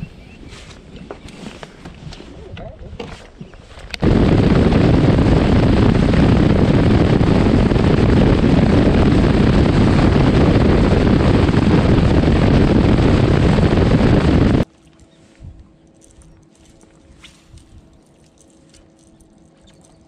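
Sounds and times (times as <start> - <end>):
wind over microphone: 0.0 - 18.0
outboard engine rushing: 0.7 - 20.0.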